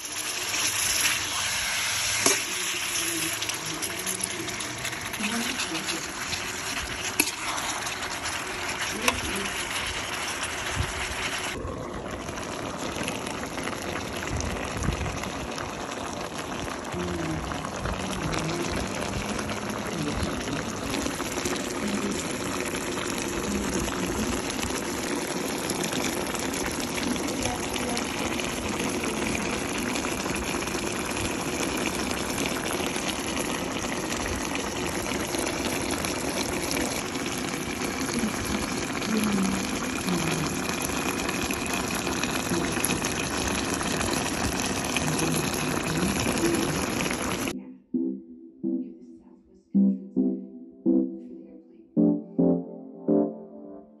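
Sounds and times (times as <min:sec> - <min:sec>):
sauce bubbling in a wok: 0:00.0 - 0:47.6.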